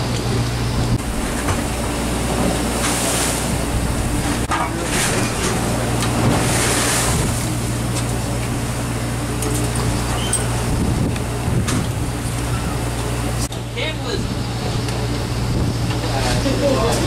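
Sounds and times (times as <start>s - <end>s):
boat engine droning: 0.0s - 17.0s
choppy sea washing: 0.0s - 17.0s
wind: 0.0s - 17.0s.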